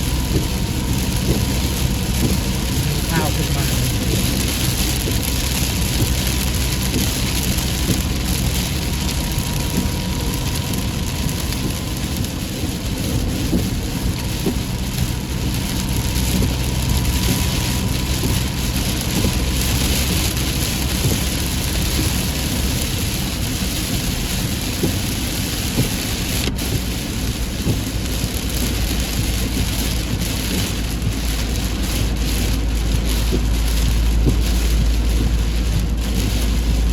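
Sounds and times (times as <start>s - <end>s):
heavy rain pouring: 0.0s - 36.9s
low rumble: 0.0s - 36.9s.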